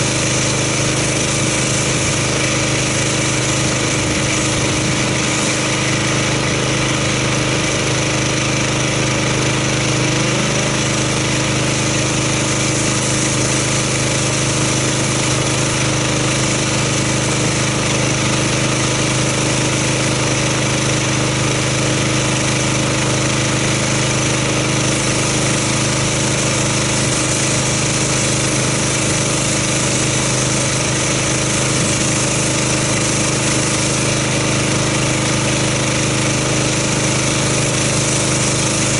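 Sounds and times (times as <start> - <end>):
pressure washer engine running: 0.0 - 38.9
water spray on car: 0.0 - 38.9.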